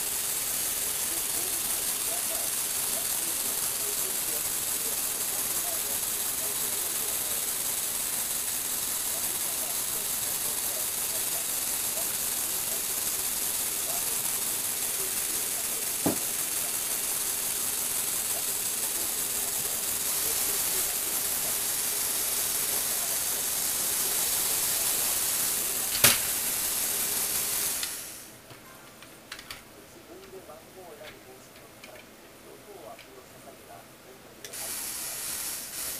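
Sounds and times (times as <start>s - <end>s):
electric motor and gears running: 0.0s - 28.4s, 34.5s - 35.9s.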